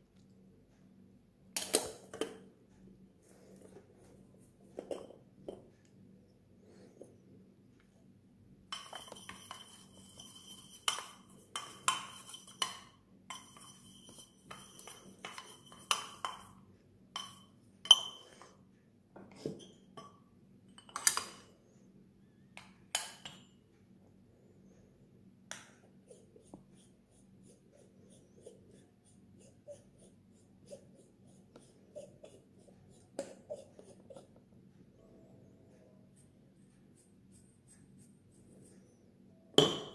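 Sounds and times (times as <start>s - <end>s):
faint high hum: 0.0s - 39.9s.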